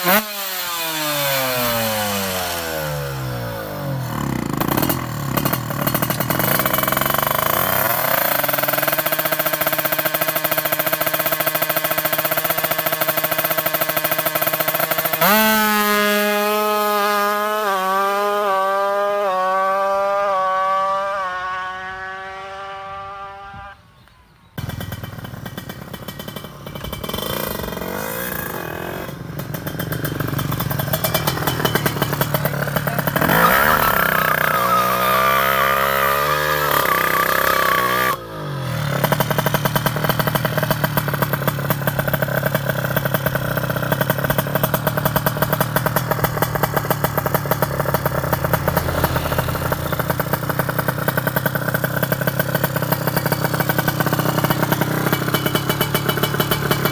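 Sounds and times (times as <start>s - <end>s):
two-stroke motorcycle engine revving: 0.0s - 23.8s, 24.6s - 56.9s.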